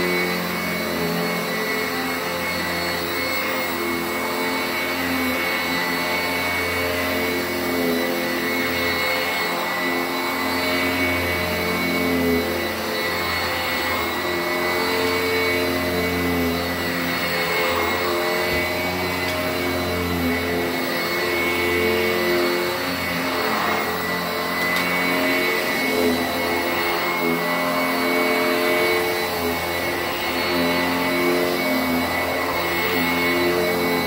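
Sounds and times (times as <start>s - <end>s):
vacuum cleaner running on carpet: 0.0s - 34.0s.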